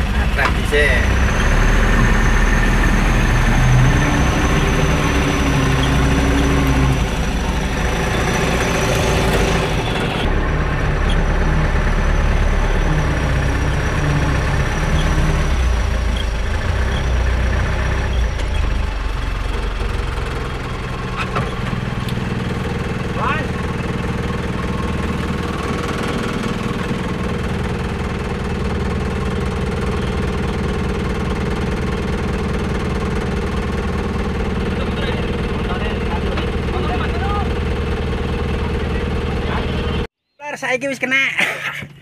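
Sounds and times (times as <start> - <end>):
truck engine running: 0.0 - 40.1.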